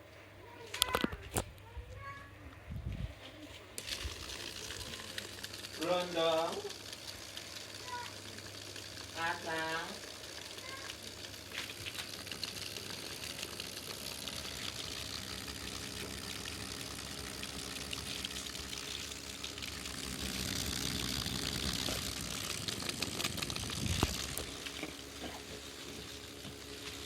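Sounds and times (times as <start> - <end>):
low motor hum: 2.7 - 27.0.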